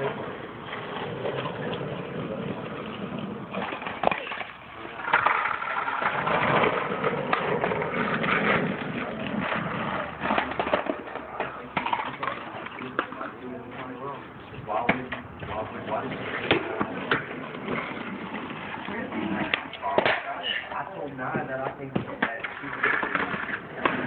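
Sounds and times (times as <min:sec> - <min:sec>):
skateboard clack: 0:00.0 - 0:24.0
skateboard wheels rolling on asphalt: 0:00.0 - 0:24.0.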